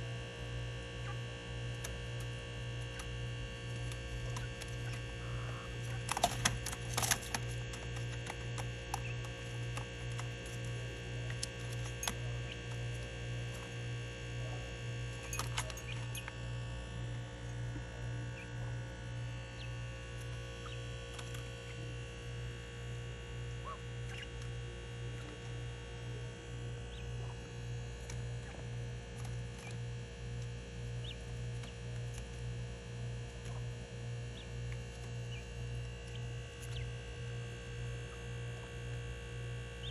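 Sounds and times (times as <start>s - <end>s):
pulsing electrical hum: 0.0s - 39.9s.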